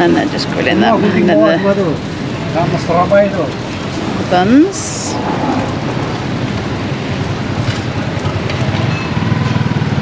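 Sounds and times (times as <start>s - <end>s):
food sizzling on a griddle: 0.0s - 10.0s
vehicle engine running: 0.0s - 10.0s.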